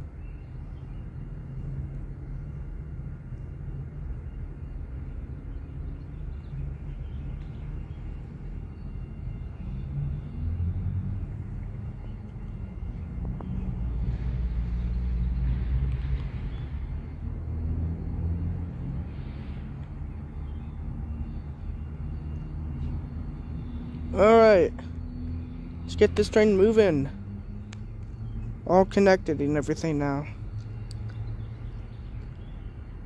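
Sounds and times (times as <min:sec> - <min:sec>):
diesel locomotive engines running: 0:00.0 - 0:33.0.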